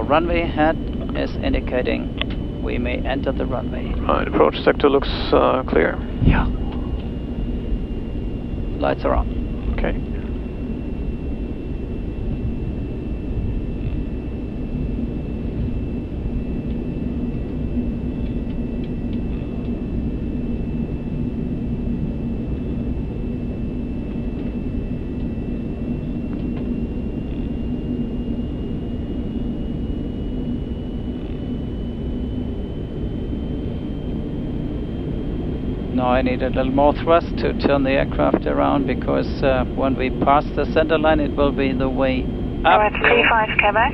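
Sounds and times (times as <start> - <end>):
aircraft engine low drone: 0.0 - 43.9
faint high whine: 0.0 - 43.9.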